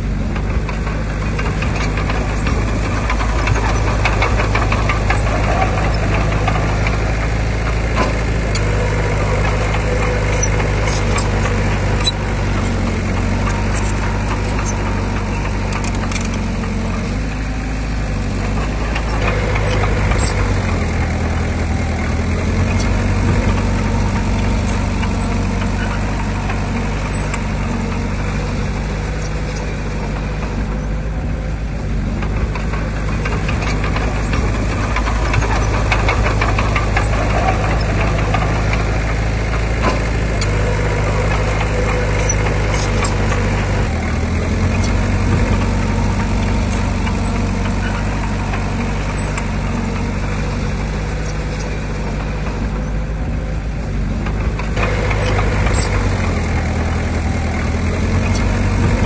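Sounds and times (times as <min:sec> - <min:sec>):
heavy machinery engine running: 0:00.0 - 0:59.0
clattering: 0:00.4 - 0:30.9, 0:32.2 - 0:53.0.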